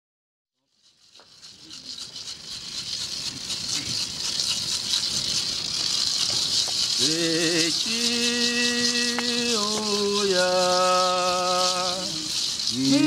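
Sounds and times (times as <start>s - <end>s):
hand rattle shaken: 0.6s - 13.0s.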